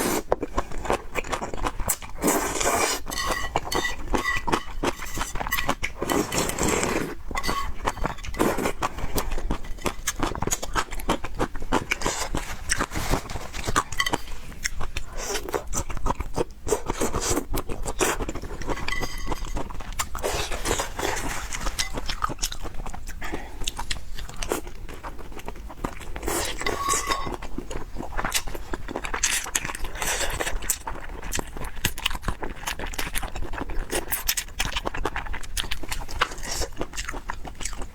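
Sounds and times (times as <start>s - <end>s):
chewing food: 0.0s - 37.9s.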